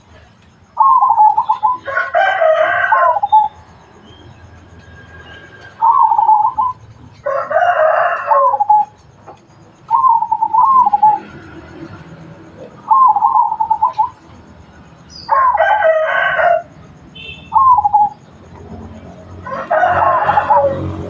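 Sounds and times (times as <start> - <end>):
harsh bird calls: 0.0 - 21.0
dove warbling coo: 0.8 - 3.8, 5.2 - 14.5, 15.2 - 21.0.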